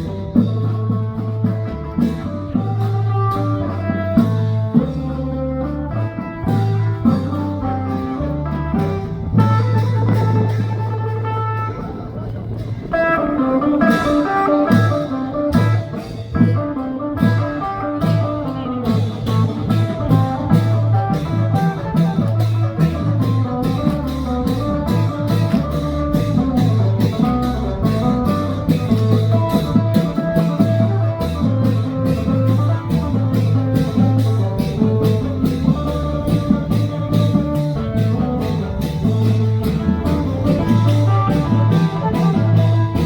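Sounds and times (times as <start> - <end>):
drums with cymbals: 0.0 - 43.0
plucked guitar-like lead melody: 0.0 - 43.0
pulsing bass line: 0.0 - 43.0.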